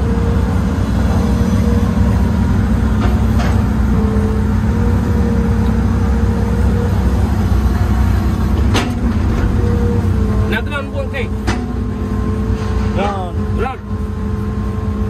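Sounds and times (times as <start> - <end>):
excavator diesel engine running: 0.0 - 15.0
steady whine: 0.0 - 15.0.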